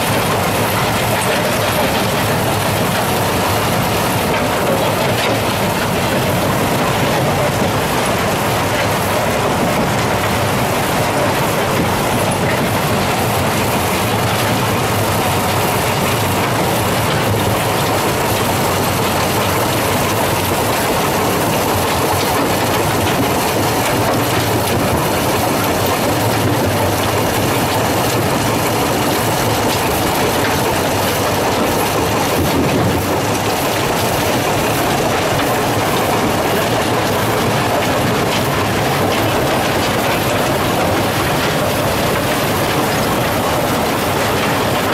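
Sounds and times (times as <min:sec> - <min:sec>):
crushing machinery clatter and rumble: 0:00.0 - 0:44.9.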